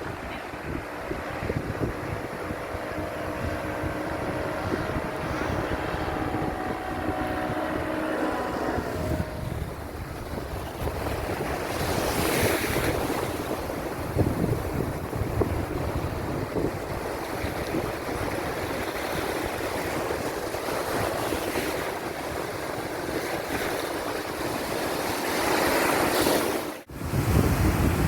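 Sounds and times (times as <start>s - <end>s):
steady motor hum: 0.0s - 26.1s
sea waves washing onto beach: 0.0s - 28.0s
wind buffeting microphone: 0.0s - 28.0s.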